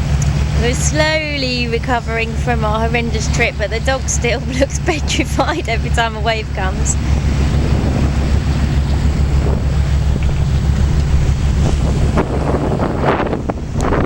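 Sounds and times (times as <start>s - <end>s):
water splashing against hull: 0.0s - 14.0s
wind buffeting microphone: 0.0s - 14.0s.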